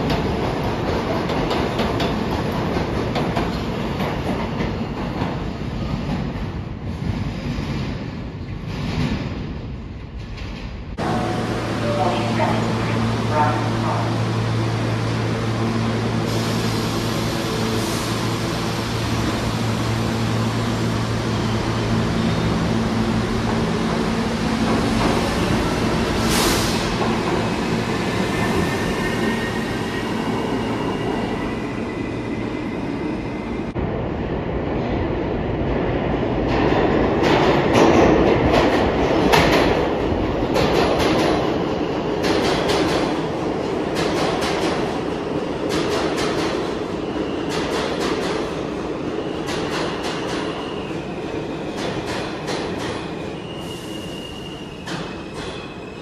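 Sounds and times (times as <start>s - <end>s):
subway train low hum: 0.0s - 56.0s.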